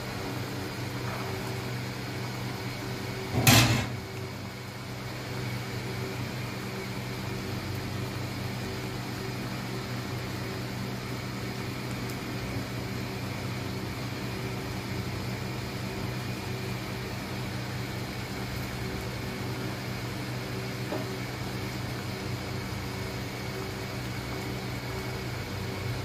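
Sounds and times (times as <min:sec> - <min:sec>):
cooktop coil humming: 0:00.0 - 0:26.0
cooling fan hissing: 0:00.0 - 0:26.0
food boiling in a pan: 0:00.0 - 0:26.0.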